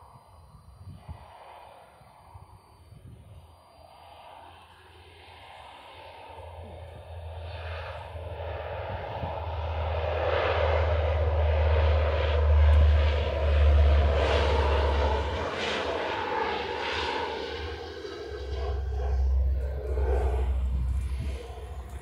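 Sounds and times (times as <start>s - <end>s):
turboprop aircraft engines: 0.0s - 22.0s.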